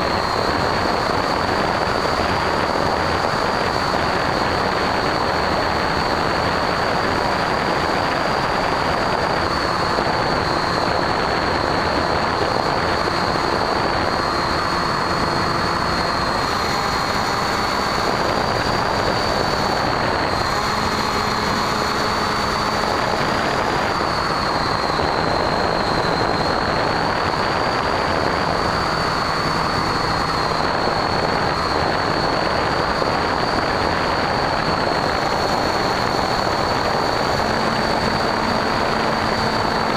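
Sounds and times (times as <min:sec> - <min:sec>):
model plane motor whining: 0:00.0 - 0:39.9
wind rush on microphone: 0:00.0 - 0:39.9.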